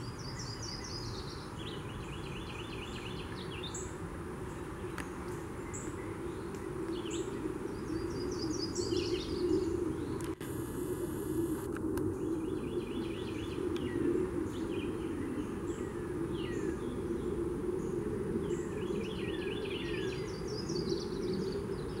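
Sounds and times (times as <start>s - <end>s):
songbirds singing: 0.0s - 10.4s, 11.4s - 22.0s.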